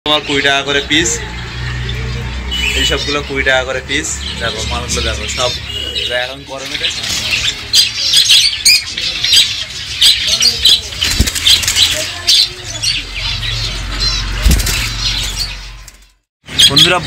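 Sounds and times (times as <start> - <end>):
budgerigars chattering: 0.1 - 17.0.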